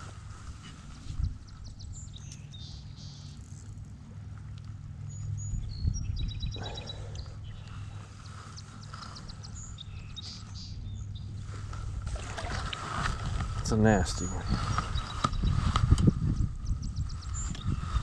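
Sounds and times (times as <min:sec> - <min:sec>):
low steady rumble: 0:00.0 - 0:18.0
wild birds chirping: 0:00.0 - 0:18.0.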